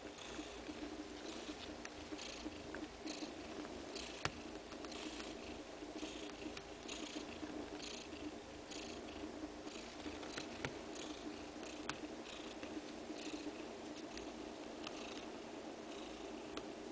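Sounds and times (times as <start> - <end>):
cat purring: 0.0 - 16.9.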